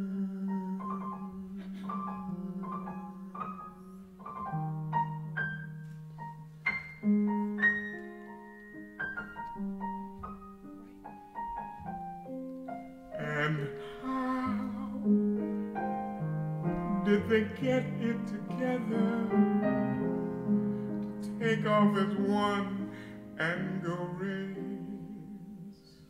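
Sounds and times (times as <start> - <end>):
jazz piano playing: 0.0 - 26.0.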